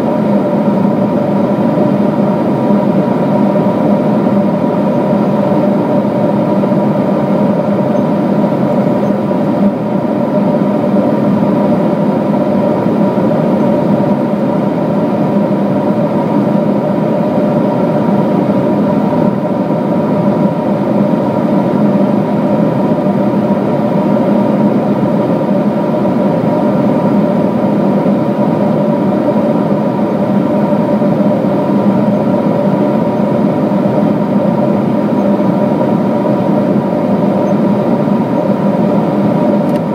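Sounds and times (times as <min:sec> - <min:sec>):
jet engines and airflow rushing: 0:00.0 - 0:39.9
steady hum tones: 0:00.0 - 0:39.9.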